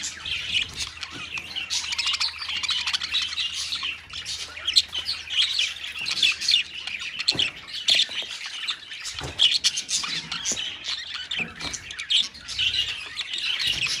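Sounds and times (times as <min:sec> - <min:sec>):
budgerigars chattering: 0:00.0 - 0:14.0.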